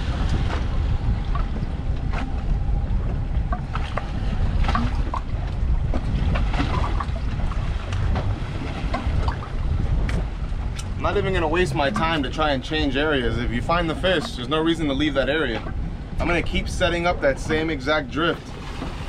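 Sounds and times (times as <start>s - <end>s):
water slapping against boat hull: 0.0s - 19.0s
wind buffeting microphone: 0.0s - 19.0s.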